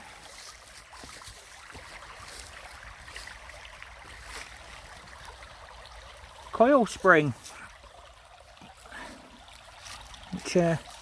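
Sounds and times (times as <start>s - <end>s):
brook water trickling: 0.0s - 11.0s.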